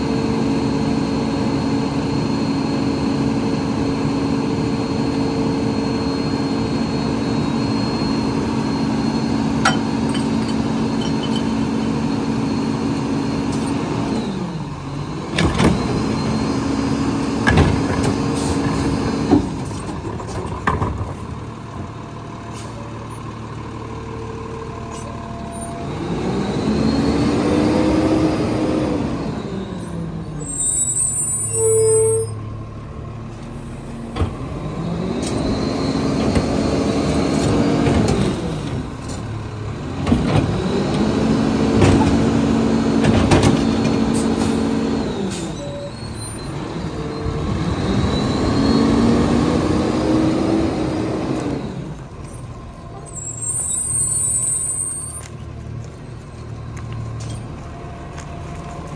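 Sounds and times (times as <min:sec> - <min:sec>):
garbage truck engine revving: 0:00.0 - 0:20.7, 0:21.4 - 0:30.7, 0:33.0 - 0:55.5.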